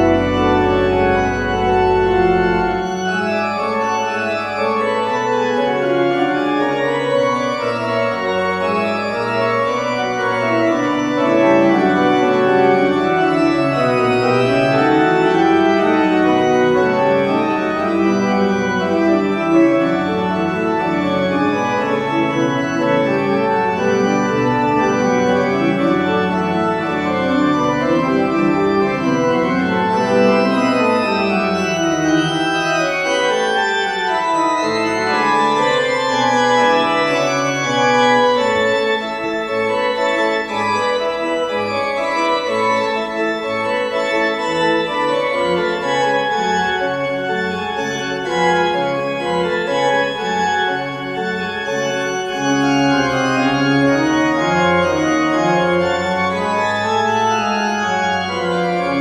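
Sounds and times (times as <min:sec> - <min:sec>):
sustained organ chords: 0:00.0 - 0:59.0.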